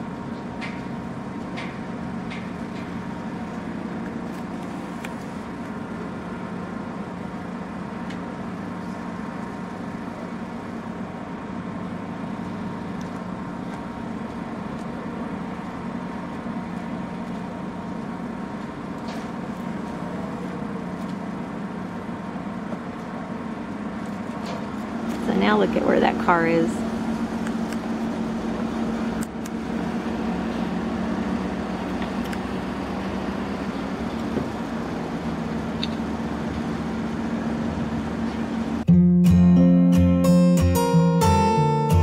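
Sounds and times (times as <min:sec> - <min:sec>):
mechanical hum: 0:00.0 - 0:38.9.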